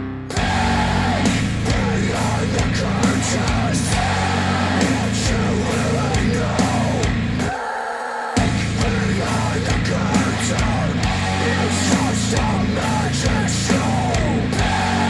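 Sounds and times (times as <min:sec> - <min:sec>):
heavy rock music over speakers: 0:00.0 - 0:07.6, 0:08.4 - 0:15.0.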